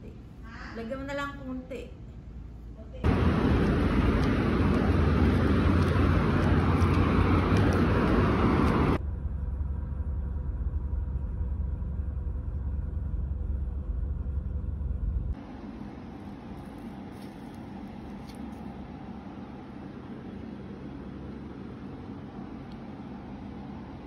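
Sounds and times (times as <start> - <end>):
vehicle rumble and road noise: 2.1 - 24.0.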